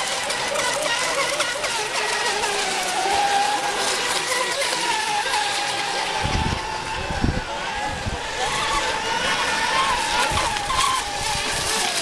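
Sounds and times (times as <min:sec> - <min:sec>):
high whine of boat motors: 0:00.0 - 0:12.0.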